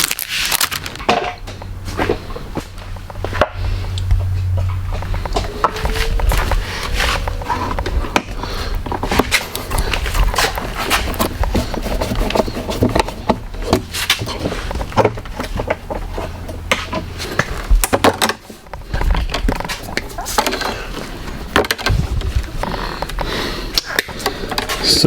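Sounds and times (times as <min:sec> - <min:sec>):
objects knocking and clattering: 0:00.0 - 0:23.3
low steady hum: 0:00.1 - 0:22.6.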